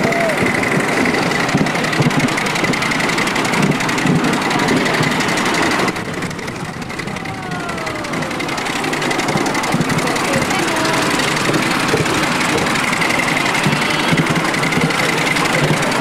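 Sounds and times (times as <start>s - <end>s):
miniature steam locomotive rumbling: 0.0s - 16.0s.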